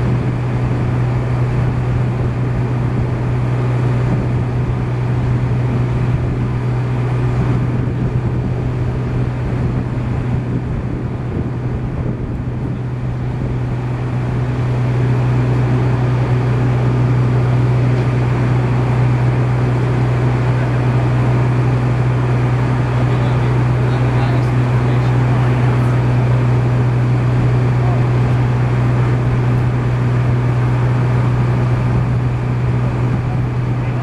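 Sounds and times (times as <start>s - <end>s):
small engine humming: 0.0s - 34.0s.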